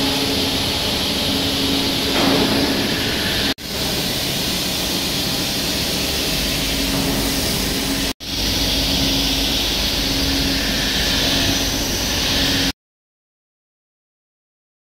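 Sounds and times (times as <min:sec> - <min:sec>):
milling machine running: 0:00.0 - 0:12.7
machine hum: 0:00.0 - 0:12.8.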